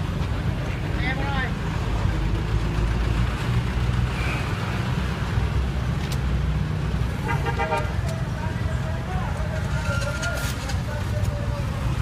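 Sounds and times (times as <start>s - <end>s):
motorbike engines rumbling: 0.0s - 12.0s.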